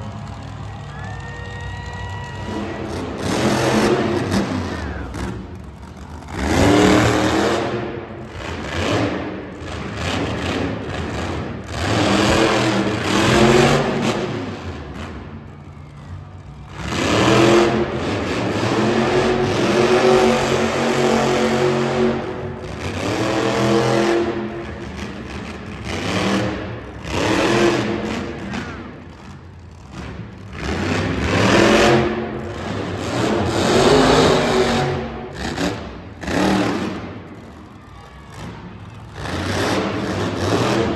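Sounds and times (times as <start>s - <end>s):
monster truck engine revving: 0.0s - 40.9s.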